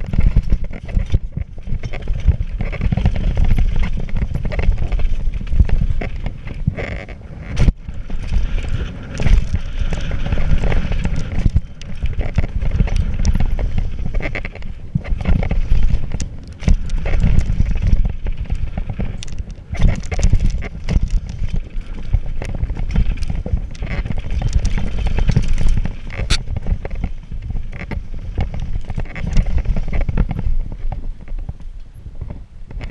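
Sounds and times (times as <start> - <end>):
bike chain and frame clattering: 0.0 - 31.0
bike tyres rolling over dirt: 0.0 - 32.9
wind buffeting microphone: 0.0 - 32.9.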